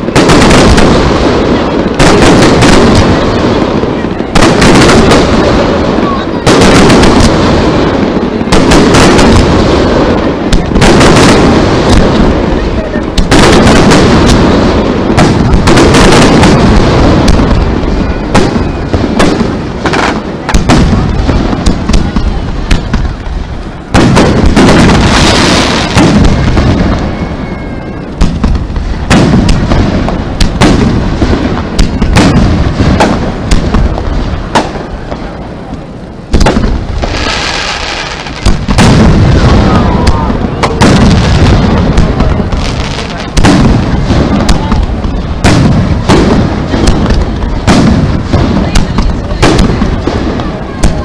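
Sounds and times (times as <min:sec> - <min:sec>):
fireworks bursting with rumble: 0:00.0 - 0:51.0.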